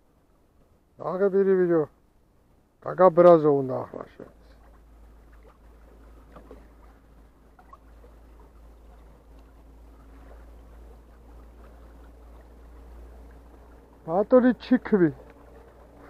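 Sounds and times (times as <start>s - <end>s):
sea washing: 0.0s - 16.0s.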